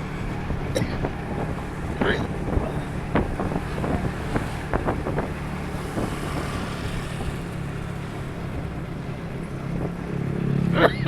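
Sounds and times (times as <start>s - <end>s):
wind buffeting microphone: 0.0s - 10.5s
vehicle engine running: 0.0s - 11.0s.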